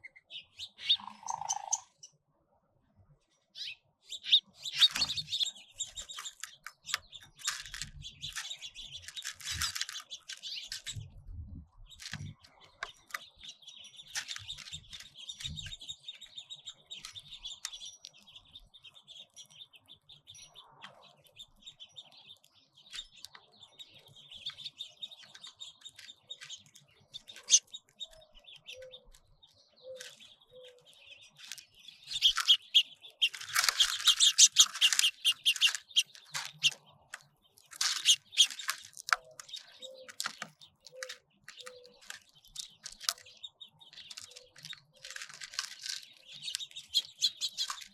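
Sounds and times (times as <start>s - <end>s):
finches chirping and twittering: 0.0s - 47.9s.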